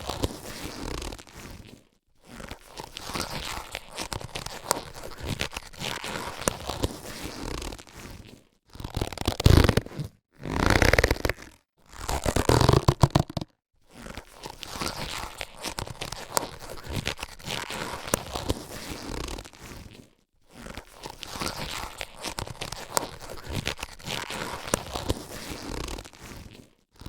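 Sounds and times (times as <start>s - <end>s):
latex gloves rustling and crinkling: 0.0s - 27.0s.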